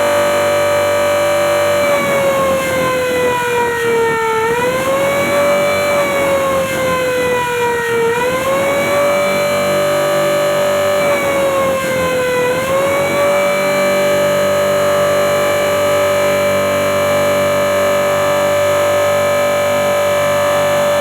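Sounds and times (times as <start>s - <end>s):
air raid siren wailing: 0.0s - 21.0s.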